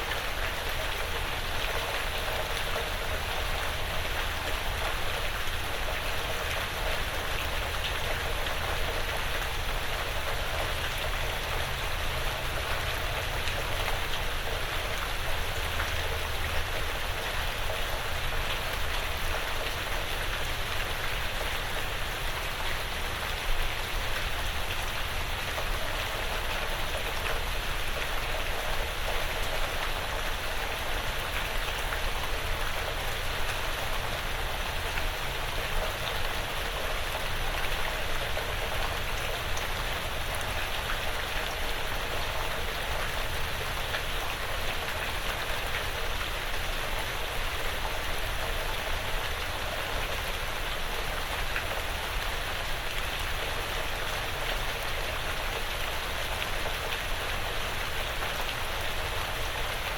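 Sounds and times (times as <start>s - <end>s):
light rain on a roof: 0.0s - 59.9s.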